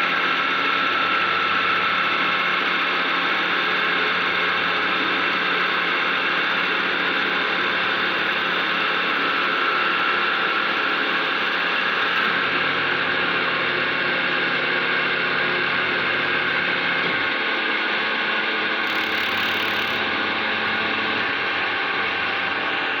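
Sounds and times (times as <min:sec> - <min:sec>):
wood lathe whine: 0:00.0 - 0:23.0.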